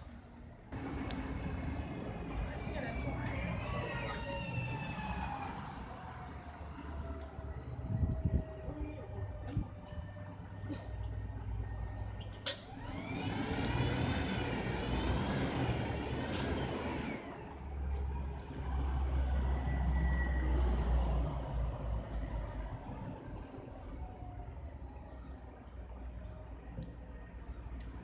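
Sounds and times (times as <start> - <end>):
bus engines running: 0.0 - 28.0.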